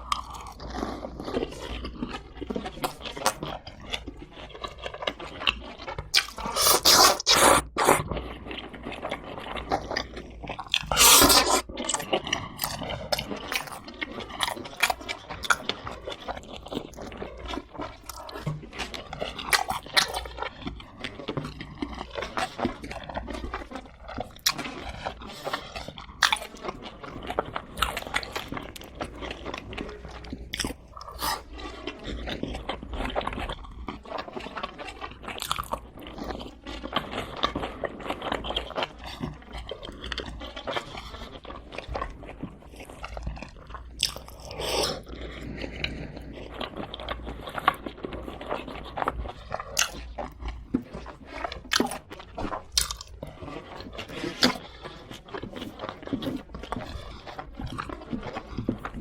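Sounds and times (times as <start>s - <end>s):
chewing crispy fried chicken: 0.0s - 59.0s.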